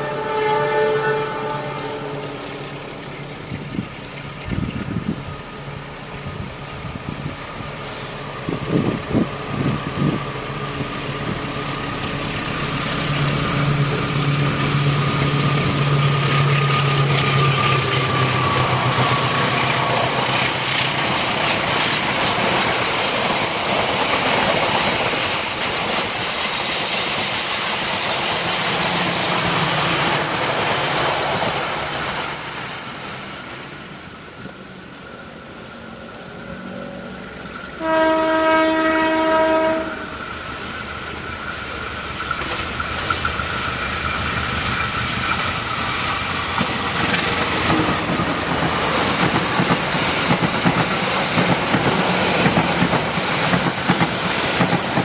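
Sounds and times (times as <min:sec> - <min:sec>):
train wheels rumbling on rails: 0:01.4 - 0:55.0.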